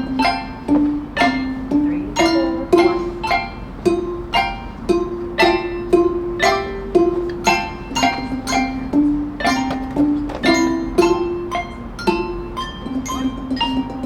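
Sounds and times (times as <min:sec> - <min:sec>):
handbells ringing a melody: 0:00.0 - 0:04.8, 0:06.4 - 0:14.0.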